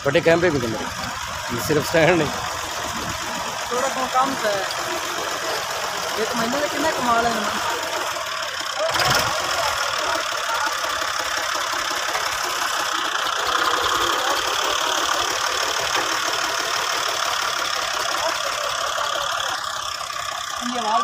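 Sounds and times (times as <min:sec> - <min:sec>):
tractor diesel engines running: 0:00.0 - 0:21.0.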